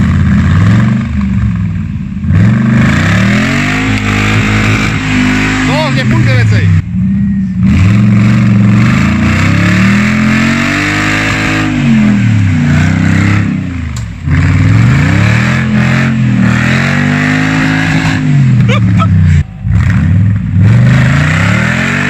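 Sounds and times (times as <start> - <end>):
engine revving under load: 0.0 - 22.0.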